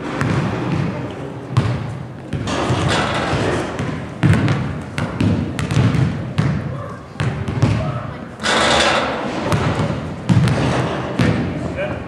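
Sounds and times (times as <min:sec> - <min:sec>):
basketball bouncing on wooden floor: 0:00.0 - 0:08.0, 0:09.5 - 0:11.5
low background noise: 0:00.0 - 0:12.0.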